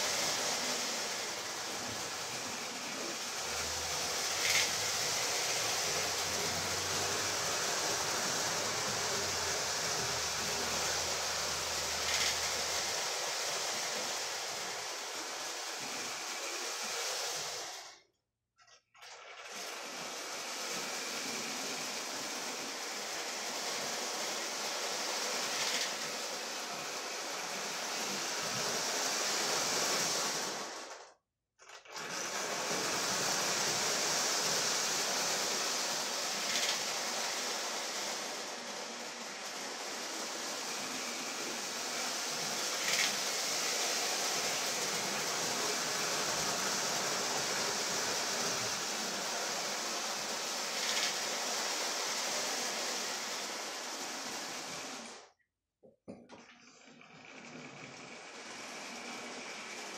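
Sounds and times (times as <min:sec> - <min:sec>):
toy train motor whirring: 0:00.0 - 0:55.4, 0:56.7 - 0:59.9.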